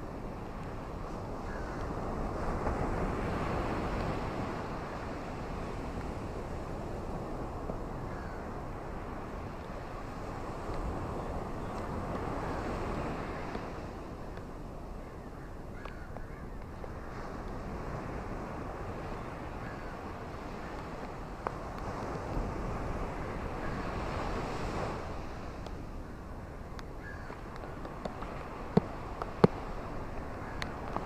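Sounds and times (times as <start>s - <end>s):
ocean surf washing onto beach: 0.0s - 15.0s, 16.6s - 31.0s.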